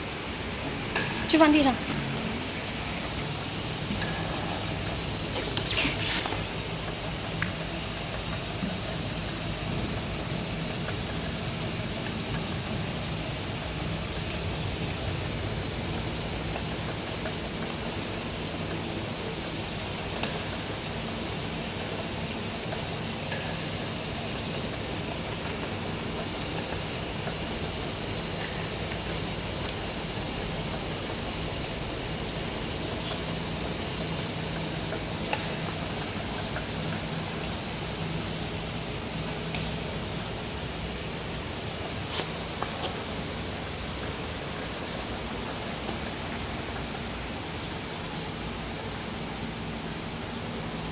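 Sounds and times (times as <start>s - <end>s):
machine mechanical hiss: 0.0s - 50.9s.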